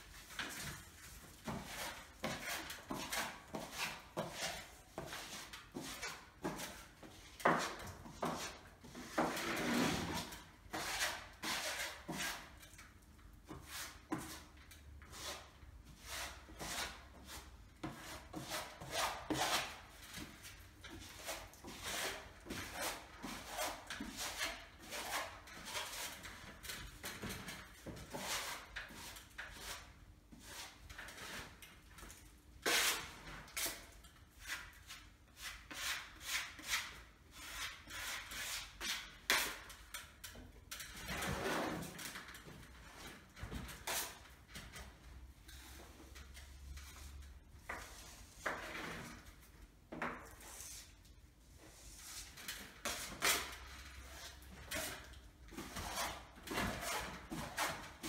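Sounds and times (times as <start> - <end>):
filling knife scraping plaster wall: 0.0 - 44.9, 51.7 - 58.0.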